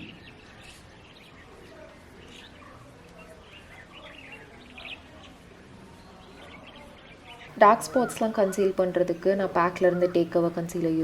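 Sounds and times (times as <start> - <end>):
birds chirping faintly: 0.0 - 11.0
soft outdoor ambience: 0.0 - 11.0.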